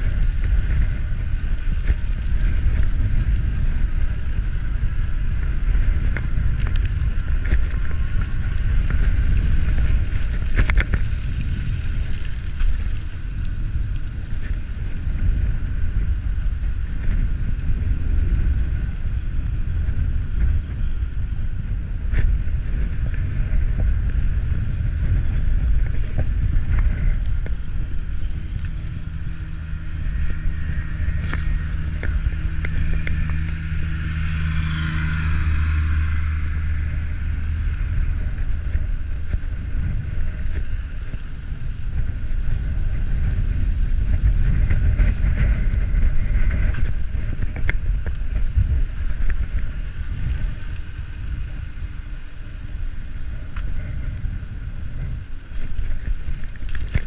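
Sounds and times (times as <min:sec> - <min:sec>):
road rumble: 0:00.0 - 0:57.0
vehicle engine hum: 0:00.0 - 0:57.0
wind on microphone: 0:00.0 - 0:57.0.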